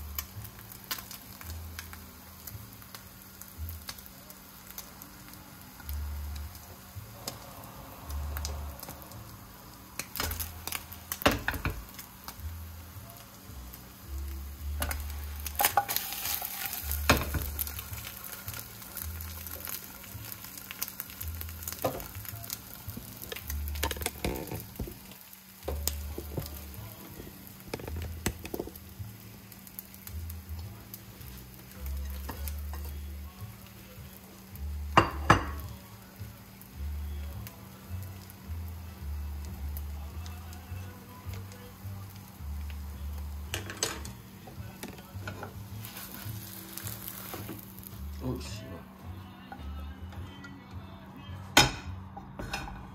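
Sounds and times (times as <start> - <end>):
egg sizzling in a frying pan: 0.0 - 48.6.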